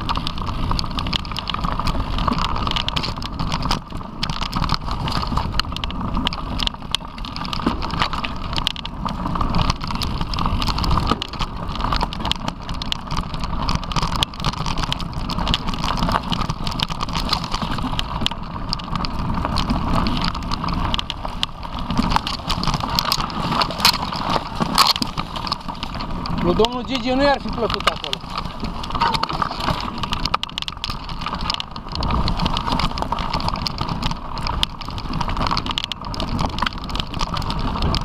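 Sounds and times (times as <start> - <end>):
bike rattling and clicking: 0.0 - 38.0
bike tyres rumbling on dirt: 0.0 - 38.0.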